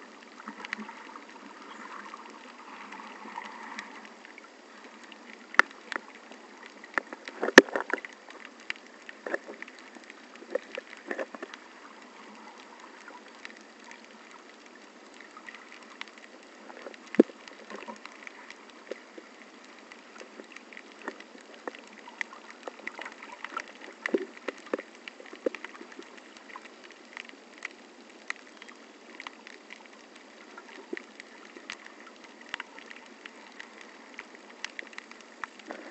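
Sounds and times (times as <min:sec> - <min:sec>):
muffled underwater water wash: 0:00.0 - 0:35.9
underwater clicks and crackles: 0:00.0 - 0:35.9.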